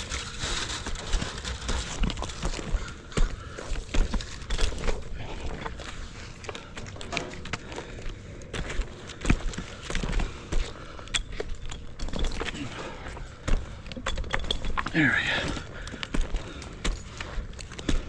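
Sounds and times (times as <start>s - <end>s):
footsteps: 0.0s - 18.0s.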